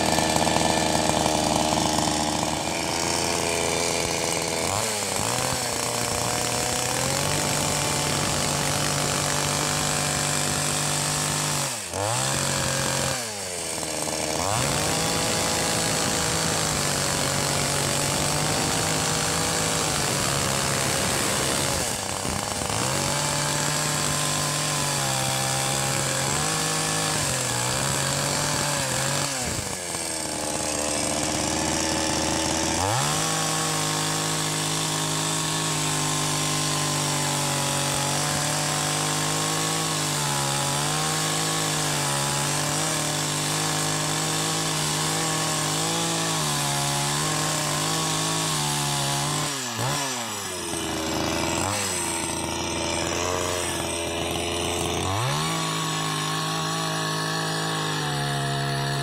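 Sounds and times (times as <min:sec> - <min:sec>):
chainsaw cutting log: 0:00.0 - 0:59.0
chainsaw idling: 0:00.0 - 0:59.0.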